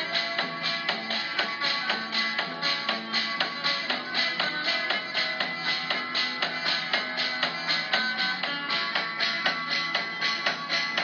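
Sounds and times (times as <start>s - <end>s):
guitar strummed rhythmically: 0.0s - 11.0s.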